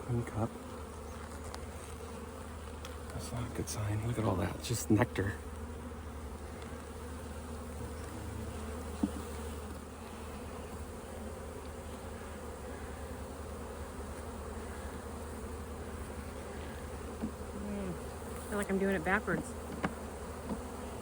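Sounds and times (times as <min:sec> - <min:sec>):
honey bees buzzing: 0:00.0 - 0:21.0.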